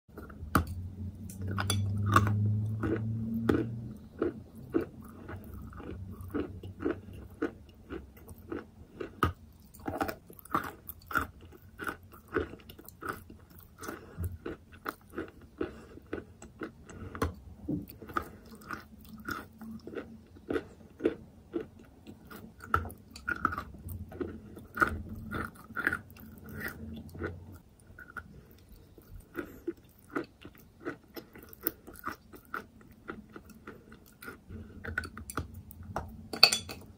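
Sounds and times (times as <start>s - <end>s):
chewing chalk crunches: 0.1s - 35.8s.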